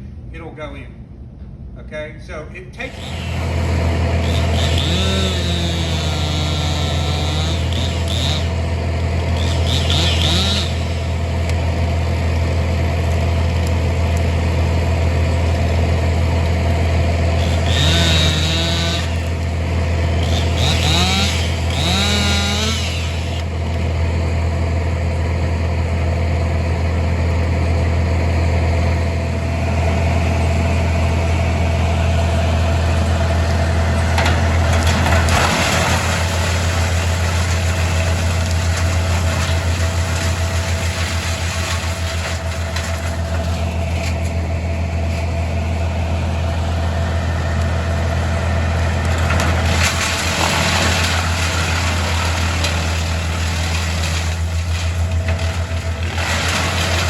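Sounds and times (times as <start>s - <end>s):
engine idling: 2.8s - 57.0s.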